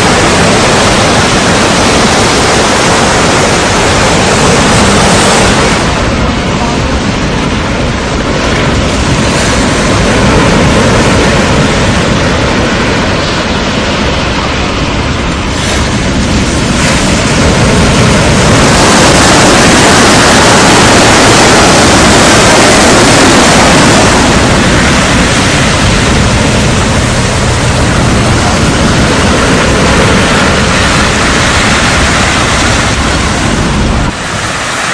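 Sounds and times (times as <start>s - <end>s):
strong wind on microphone: 0.0s - 34.9s
surf: 0.0s - 34.9s.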